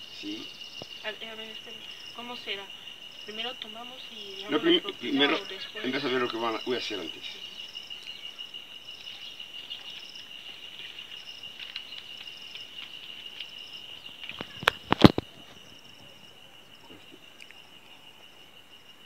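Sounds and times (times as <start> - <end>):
high-pitched insect chirring: 0.0 - 18.2.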